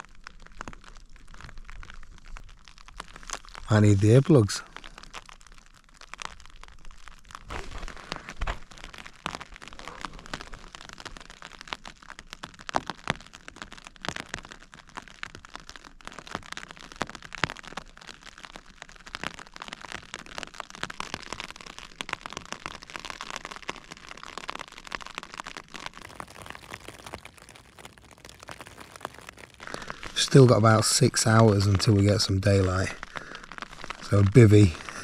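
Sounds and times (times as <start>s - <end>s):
rain on fabric shelter: 0.0s - 35.0s.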